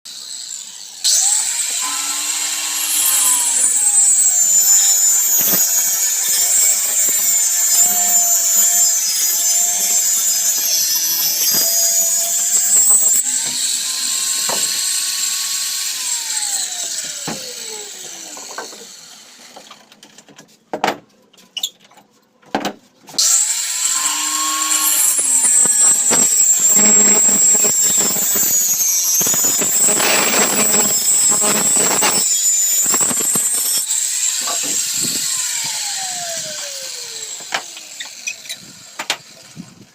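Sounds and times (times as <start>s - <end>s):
angle grinder cutting wood: 0.1s - 19.9s, 23.2s - 39.8s.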